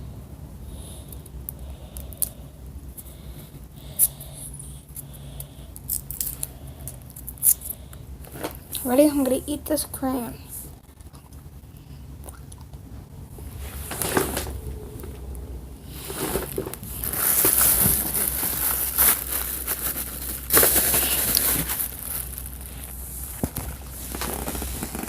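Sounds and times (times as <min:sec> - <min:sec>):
child chewing crayon crunching: 0:00.7 - 0:09.0, 0:10.6 - 0:25.0.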